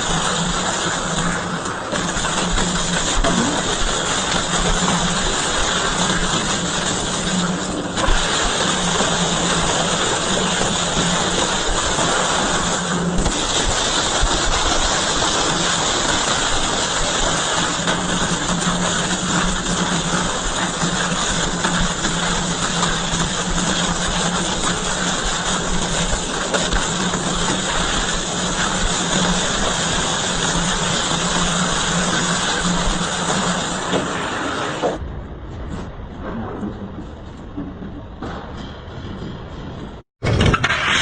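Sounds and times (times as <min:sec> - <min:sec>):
shredder hum: 0:00.0 - 0:34.2.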